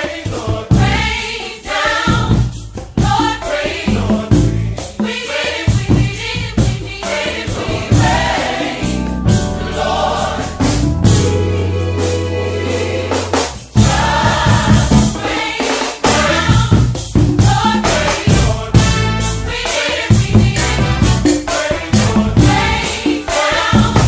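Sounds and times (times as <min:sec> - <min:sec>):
backing music with drum beat: 0:00.0 - 0:24.0
gospel choir singing: 0:00.0 - 0:24.0.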